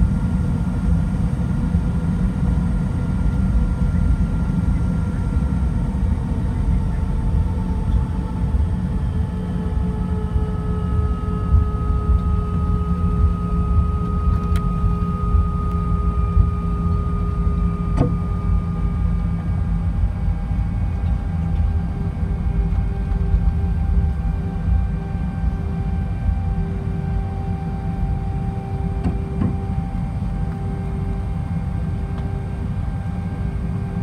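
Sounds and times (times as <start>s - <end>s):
aircraft cabin low rumble: 0.0s - 34.0s
jet engine whine: 0.0s - 34.0s.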